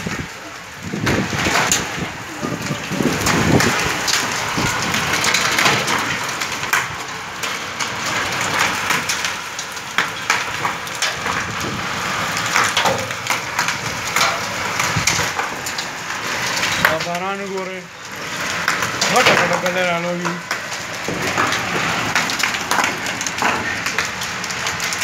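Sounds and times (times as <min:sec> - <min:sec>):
heavy rain on pavement: 0:00.0 - 0:25.0.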